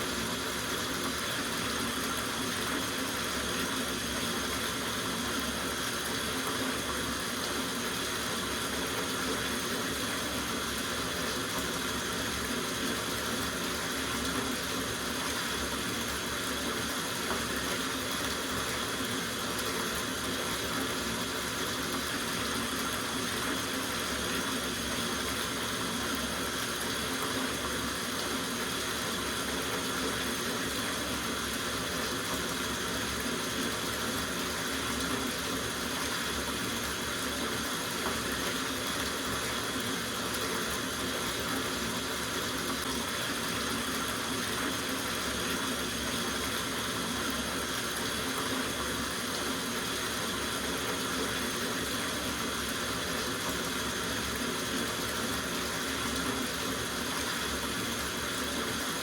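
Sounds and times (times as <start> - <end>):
water running from tap into bathtub: 0.0 - 59.0.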